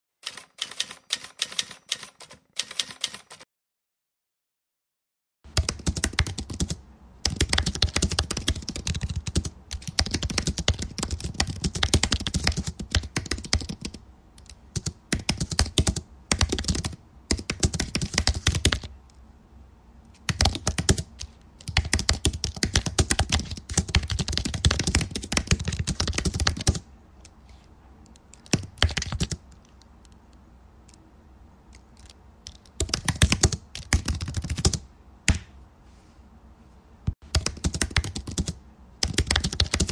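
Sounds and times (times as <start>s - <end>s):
computer keyboard typing: 0.2s - 3.5s, 5.5s - 18.9s, 20.2s - 27.3s, 28.1s - 30.2s, 32.0s - 35.4s, 37.3s - 39.9s.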